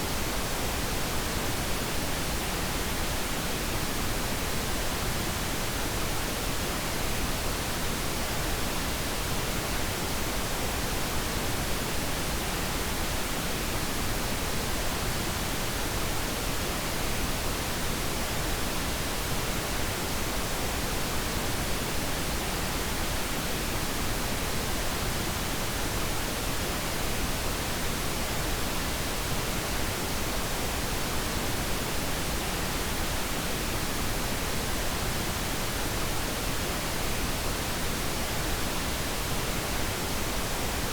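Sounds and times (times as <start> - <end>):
steady noise hiss: 0.0 - 40.9.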